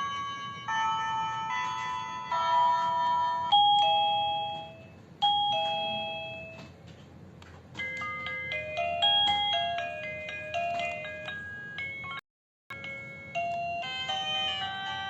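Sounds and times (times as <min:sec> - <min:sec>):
electronic doorbell chimes: 0:00.0 - 0:06.7, 0:07.8 - 0:15.0.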